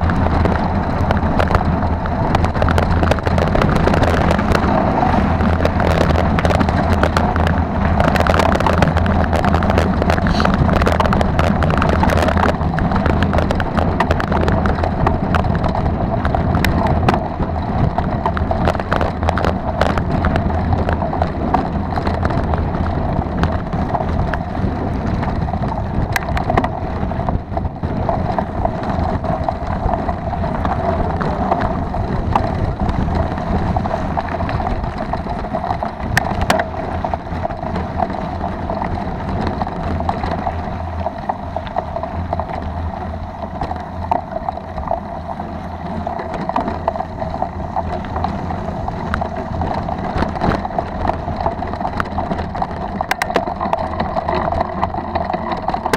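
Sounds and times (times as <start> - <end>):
bike tyre rumble on gravel: 0.0 - 55.9
rattles and knocks from bumps: 0.0 - 55.9
wind on microphone: 0.0 - 55.9.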